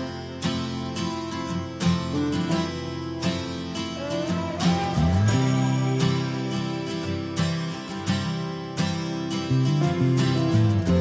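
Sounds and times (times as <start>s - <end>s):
instrumental music: 0.0s - 11.0s
strummed chords: 0.0s - 11.0s.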